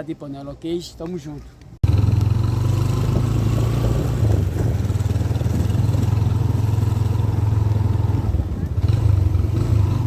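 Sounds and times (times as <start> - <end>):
road and wind noise: 0.0 - 10.0
vehicle engine running: 1.8 - 10.0.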